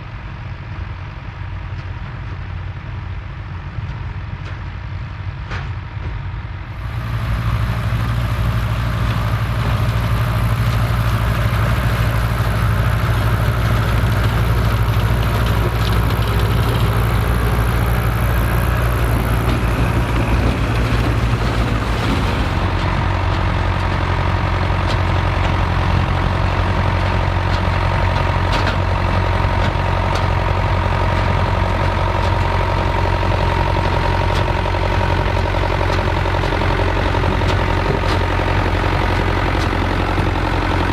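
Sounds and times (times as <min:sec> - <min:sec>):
tractor engine running: 0:00.1 - 0:40.9.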